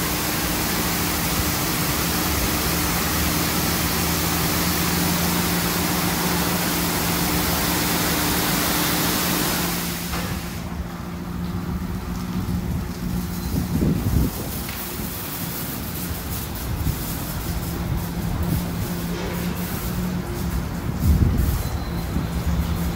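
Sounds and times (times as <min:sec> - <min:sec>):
high-pressure water spray hissing: 0:00.0 - 0:22.9.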